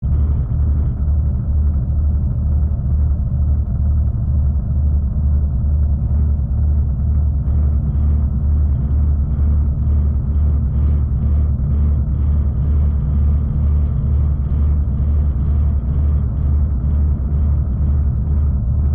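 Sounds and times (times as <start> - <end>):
regular low pulse: 0.0 - 18.9.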